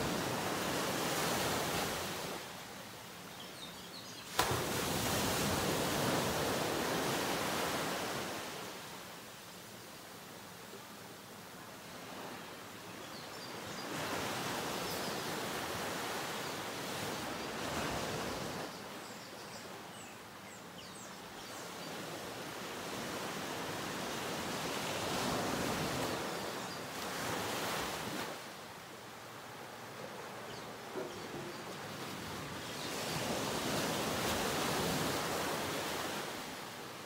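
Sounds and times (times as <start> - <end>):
ocean waves washing onto beach: 0.0 - 3.2, 4.2 - 19.0, 21.6 - 37.0.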